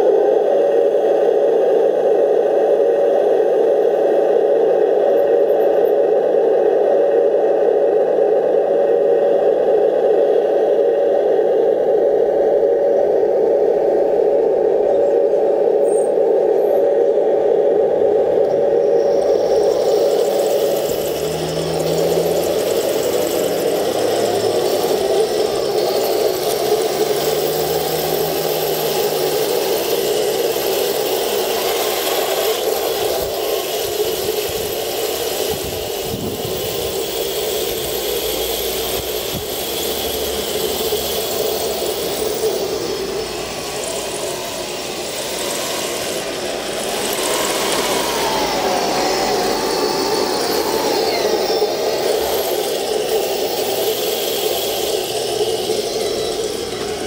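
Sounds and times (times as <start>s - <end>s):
hissy rattling whir: 0.0s - 57.0s
toy tank mechanical drone: 0.0s - 57.0s.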